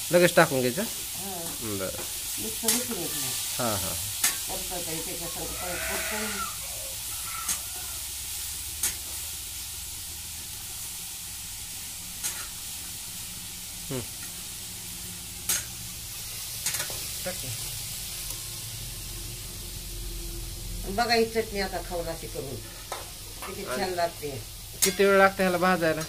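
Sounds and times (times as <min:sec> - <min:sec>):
food sizzling in a metal pan: 0:00.0 - 0:26.0.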